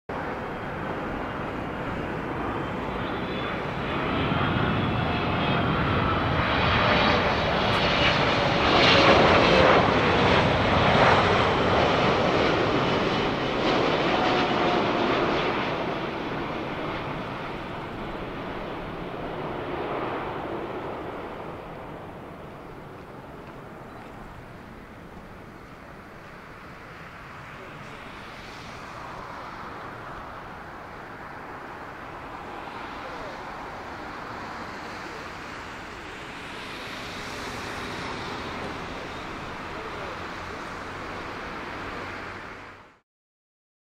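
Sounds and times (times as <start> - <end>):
jet engine roar: 0.1 - 43.0.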